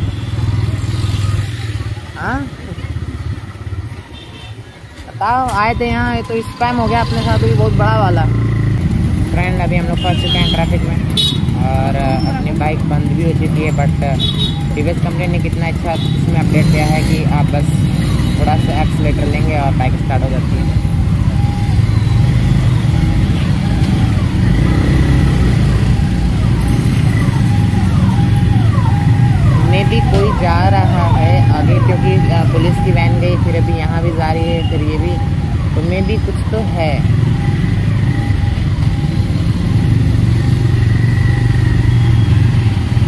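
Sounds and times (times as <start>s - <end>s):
motorcycle engine running: 0.0s - 4.5s, 6.9s - 43.0s
traffic rumble: 0.0s - 43.0s.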